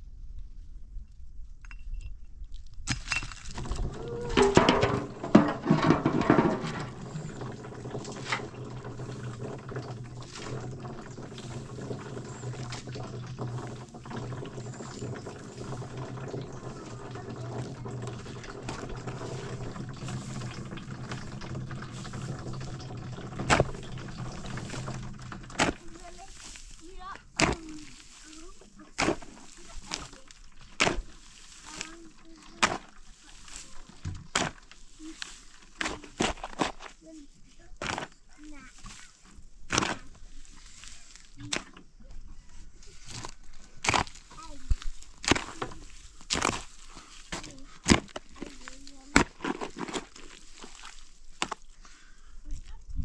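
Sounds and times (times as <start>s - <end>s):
water pouring: 3.1s - 42.0s, 42.8s - 52.7s.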